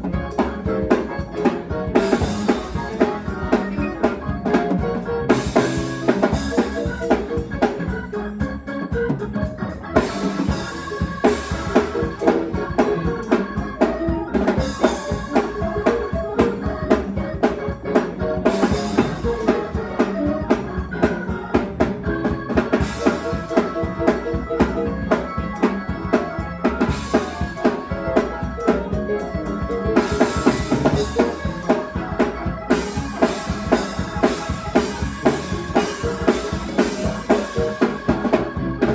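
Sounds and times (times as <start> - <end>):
church organ chords: 0.0 - 38.9
drum kit beat: 0.0 - 38.9.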